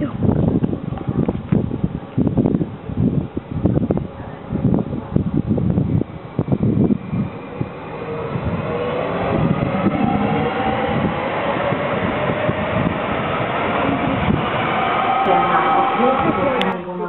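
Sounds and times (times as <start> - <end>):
train wheels rumbling on rail: 0.0 - 16.8
wind buffeting microphone: 0.0 - 16.9.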